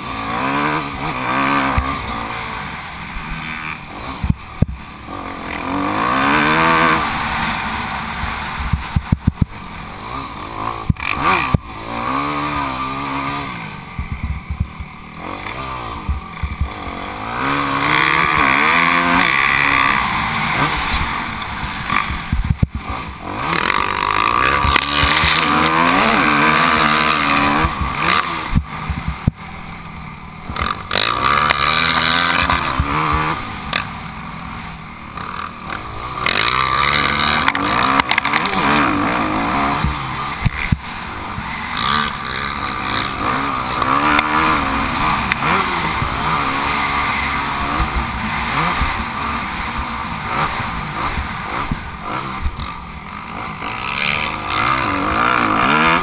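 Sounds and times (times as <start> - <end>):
motocross bike engine revving: 0.0 - 56.0
steady rushing noise: 0.0 - 56.0.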